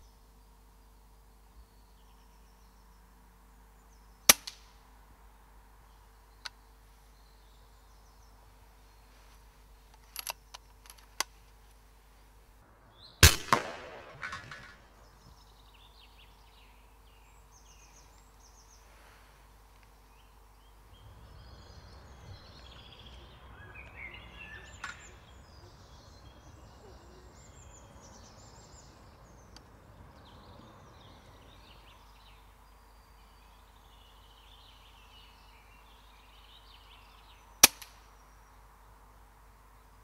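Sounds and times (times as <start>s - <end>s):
songbirds chirping and trilling: 0.0s - 40.0s.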